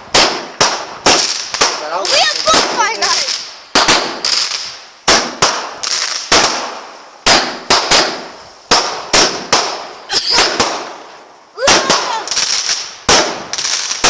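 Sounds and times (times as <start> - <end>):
fireworks bangs: 0.0 - 14.0
fireworks crackling hiss: 0.0 - 14.0.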